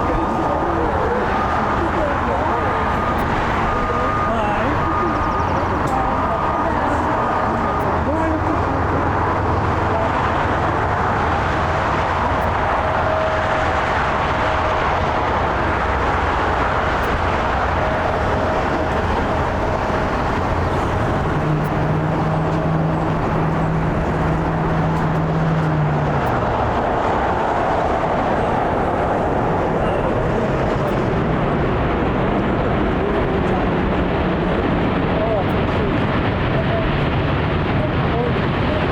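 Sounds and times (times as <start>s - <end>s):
jet engines rushing: 0.0s - 38.9s
low hum: 0.0s - 38.9s.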